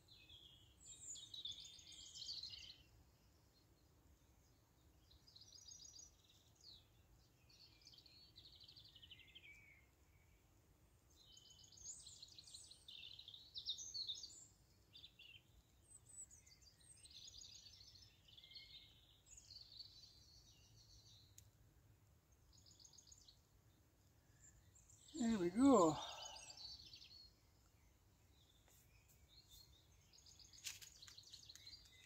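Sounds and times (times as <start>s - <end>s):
songbirds singing: 0.0s - 32.0s.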